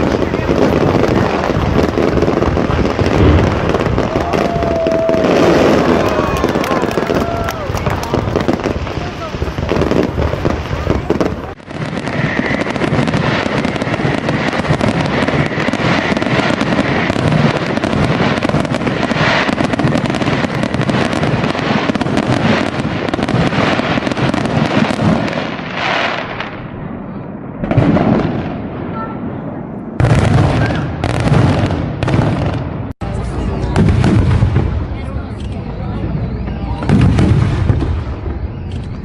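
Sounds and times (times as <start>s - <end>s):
fireworks crackling and banging: 0.0s - 39.0s.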